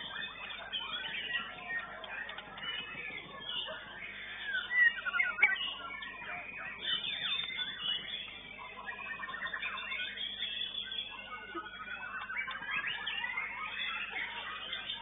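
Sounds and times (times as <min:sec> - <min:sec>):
other songbirds singing: 0:00.0 - 0:15.0
songbird singing whistles and trills: 0:00.0 - 0:15.0.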